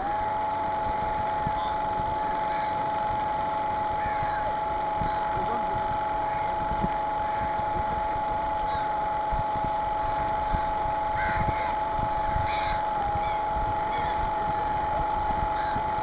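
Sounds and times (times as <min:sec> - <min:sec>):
electric motor whining: 0:00.0 - 0:16.0
water and wind rumble: 0:00.0 - 0:16.0.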